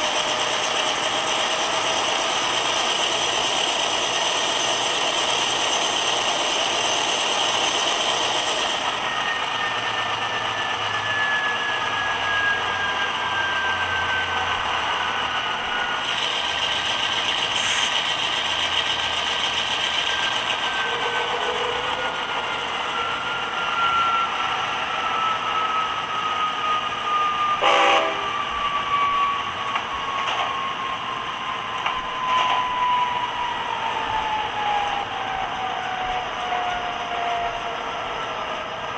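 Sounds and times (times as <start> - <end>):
diesel locomotive engine whine: 0.0 - 38.9.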